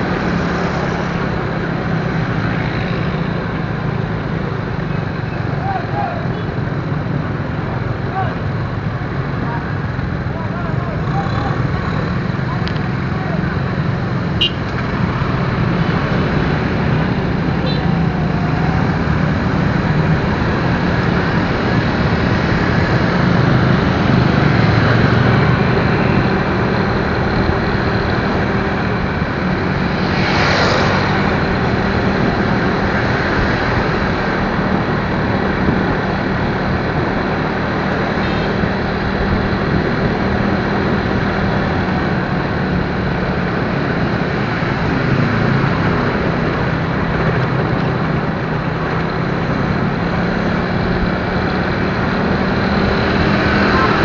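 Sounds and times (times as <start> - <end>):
motorcycle engine hum: 0.0 - 54.0
wind and road noise: 0.0 - 54.0.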